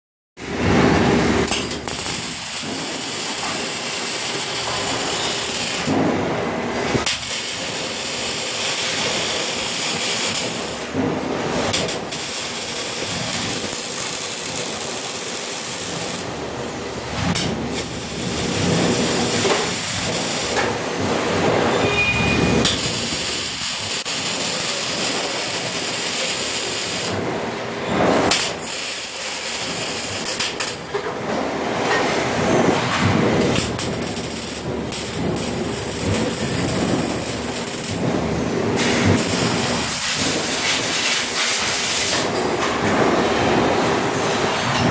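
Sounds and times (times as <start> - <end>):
arc welding hissing crackle: 0.7 - 30.9, 31.7 - 44.4.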